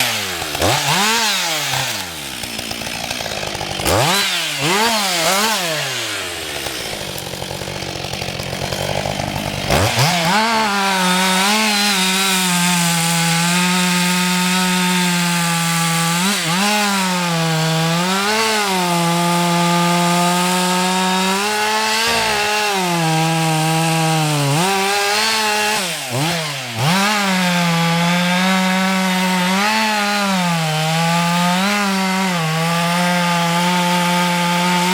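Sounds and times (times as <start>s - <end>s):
chainsaw revving and cutting wood: 0.0s - 34.9s.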